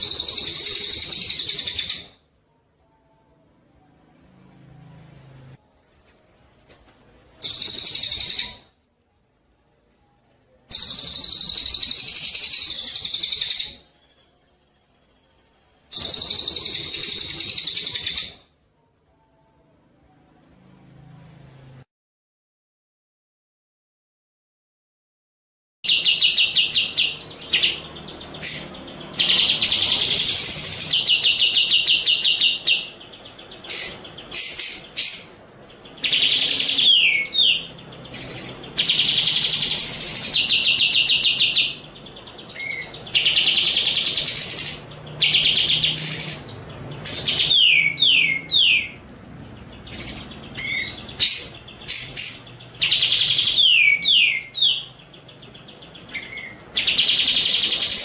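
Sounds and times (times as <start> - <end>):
songbird singing trills: 0.0 - 8.8, 9.4 - 21.3, 25.8 - 58.0.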